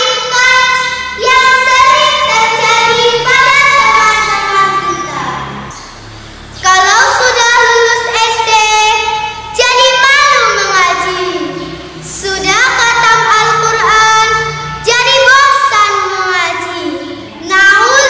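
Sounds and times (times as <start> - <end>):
girl singing: 0.0 - 5.5, 6.6 - 18.0.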